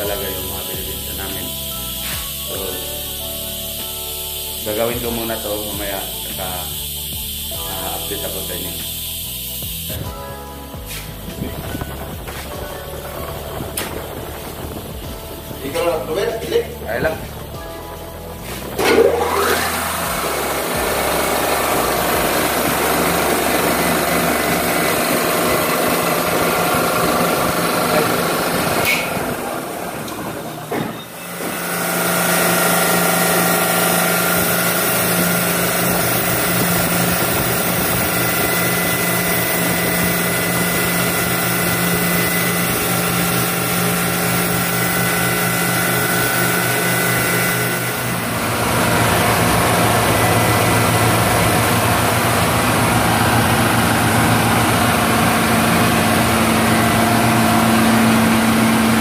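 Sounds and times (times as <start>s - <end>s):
air compressor running: 0.0s - 59.0s.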